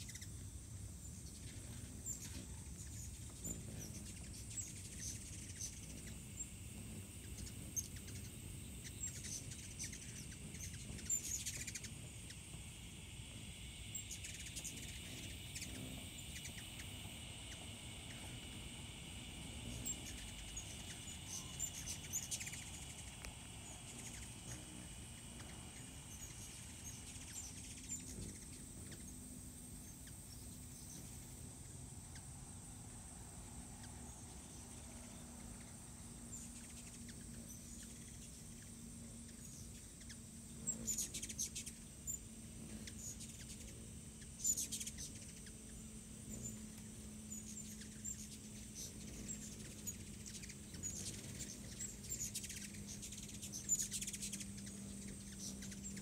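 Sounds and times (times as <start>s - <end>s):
hummingbirds chattering: 0.0s - 56.0s
steady low hum: 0.0s - 56.0s.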